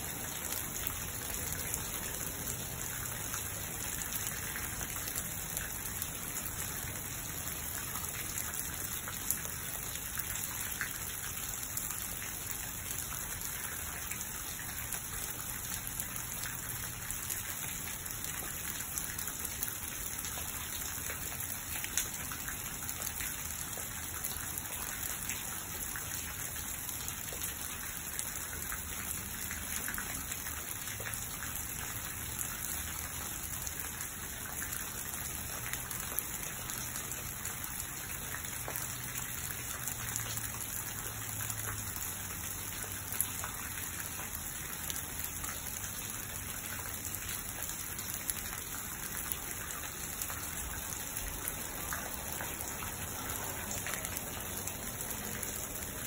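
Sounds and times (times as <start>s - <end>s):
rain on shrubs and lawn: 0.0s - 56.0s.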